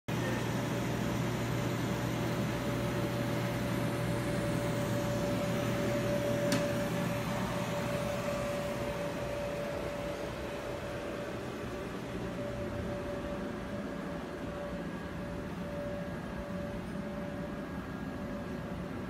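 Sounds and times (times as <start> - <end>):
electric blower fan humming: 0.1 - 19.0.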